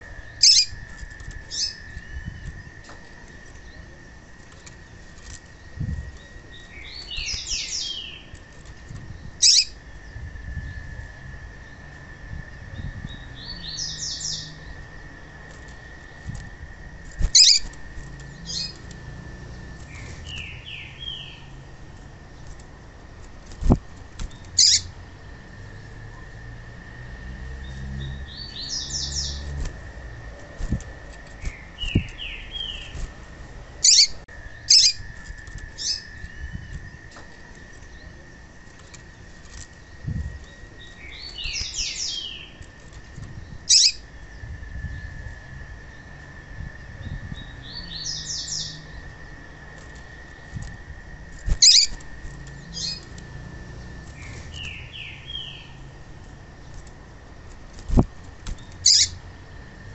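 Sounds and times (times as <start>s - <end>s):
bird chirping: 0.0s - 10.8s, 12.5s - 16.2s, 17.2s - 21.6s, 24.3s - 26.2s, 27.3s - 45.1s, 47.0s - 49.7s, 51.4s - 56.8s, 57.9s - 59.9s
wings fluttering: 0.0s - 11.2s, 14.3s - 25.7s, 28.5s - 45.2s, 48.2s - 59.9s.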